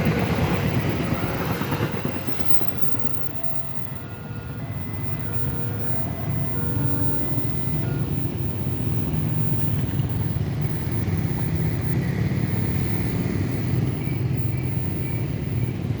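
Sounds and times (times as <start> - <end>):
low rumble of passing vehicles: 0.0 - 16.0.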